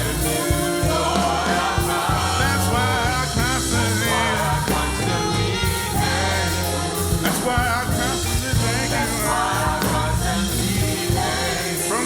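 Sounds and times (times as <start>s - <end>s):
gospel song with live band: 0.0s - 12.0s
person singing: 0.0s - 12.0s.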